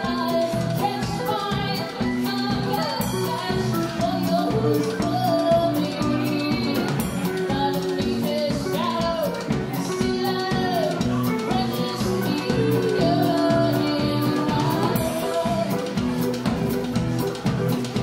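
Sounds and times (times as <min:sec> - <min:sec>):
live country band: 0:00.0 - 0:18.0.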